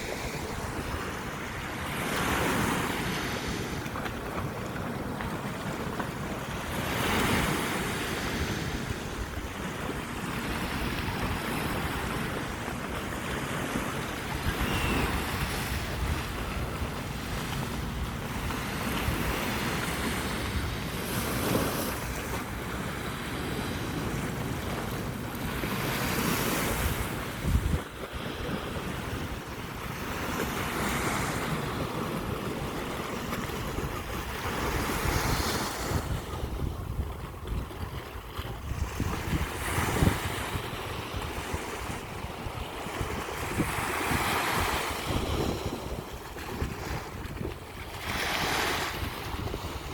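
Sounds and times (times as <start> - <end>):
waves breaking on a beach: 0.0 - 49.9.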